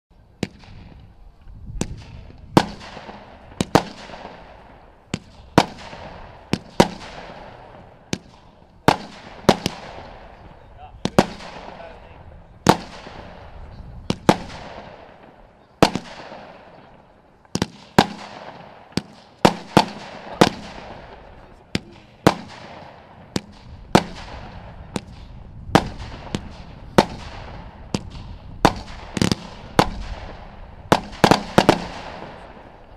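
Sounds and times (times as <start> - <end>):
firework bangs with echo: 1.8 - 32.9.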